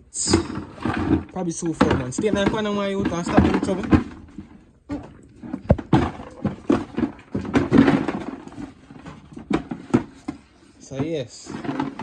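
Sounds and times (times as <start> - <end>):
goats knocking and thumping: 0.2 - 12.0.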